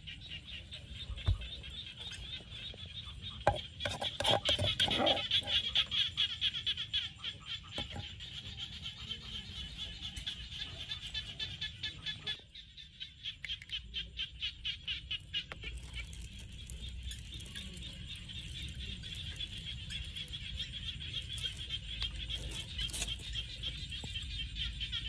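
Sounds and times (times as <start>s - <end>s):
frogs calling in chorus: 0.0s - 25.0s.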